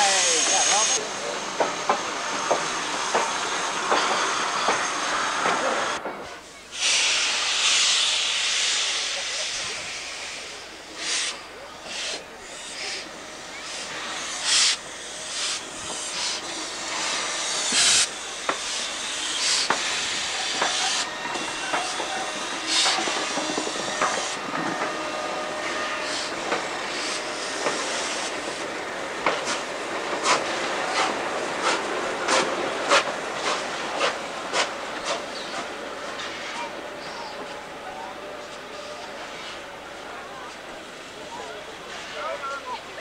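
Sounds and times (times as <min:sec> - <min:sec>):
steam hissing: 0:00.0 - 0:42.7
steam locomotive chuffing: 0:00.0 - 0:43.0.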